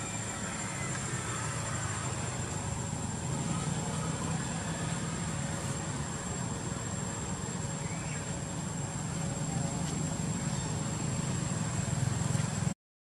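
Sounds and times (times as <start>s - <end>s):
low engine drone: 0.0s - 12.8s.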